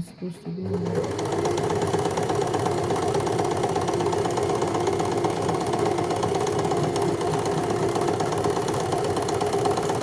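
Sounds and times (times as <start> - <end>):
electric sewing machine running: 0.6 - 10.0.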